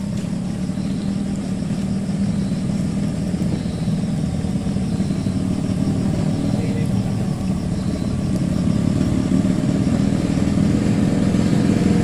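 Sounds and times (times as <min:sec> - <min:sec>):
river rumbling under bridge: 0:00.0 - 0:12.0.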